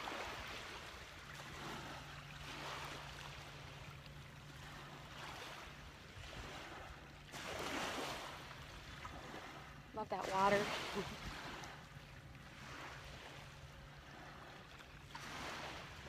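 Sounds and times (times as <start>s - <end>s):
waves washing onto beach: 0.0s - 16.0s.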